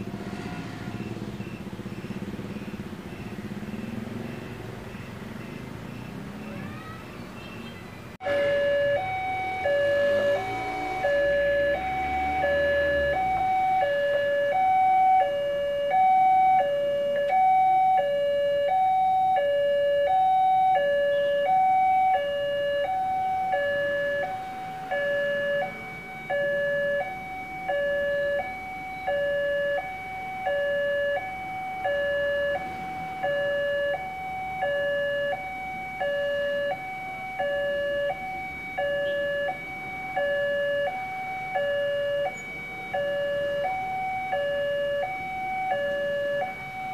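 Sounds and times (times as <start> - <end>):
two-tone level crossing alarm: 0.5 - 6.7, 8.2 - 46.9.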